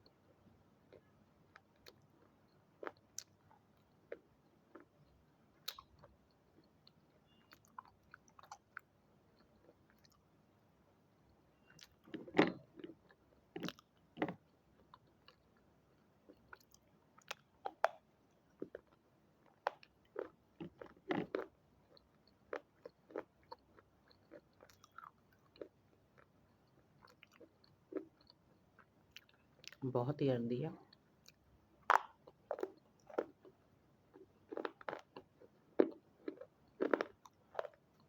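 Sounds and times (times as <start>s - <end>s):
person chewing crunchy food: 0.0s - 10.4s, 11.6s - 29.8s, 30.9s - 38.0s.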